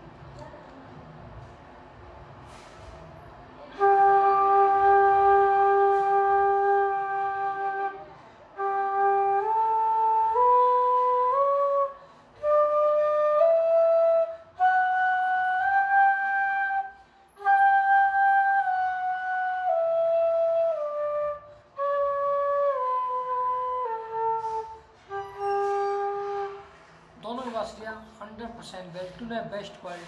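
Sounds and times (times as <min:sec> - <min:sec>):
bamboo flute melody: 0:03.5 - 0:27.6.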